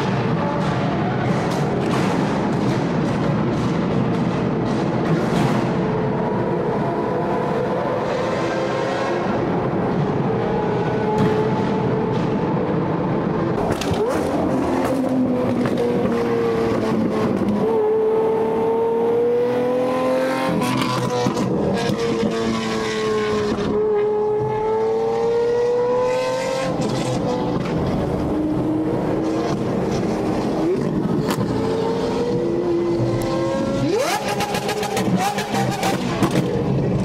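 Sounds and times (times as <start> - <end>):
road and wind noise: 0.0 - 37.0
sports car engine droning: 0.0 - 37.0.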